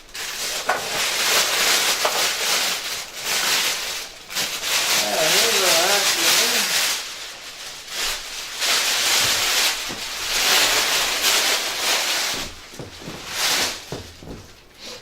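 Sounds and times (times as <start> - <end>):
packaging rustling and scraping: 0.0 - 15.0.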